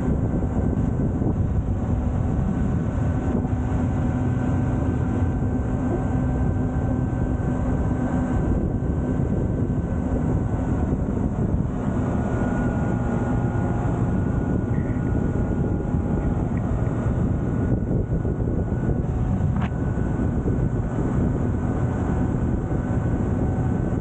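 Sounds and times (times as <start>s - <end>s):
motorbike engine hum: 0.0s - 24.0s
wind rushing over microphone: 0.0s - 24.0s.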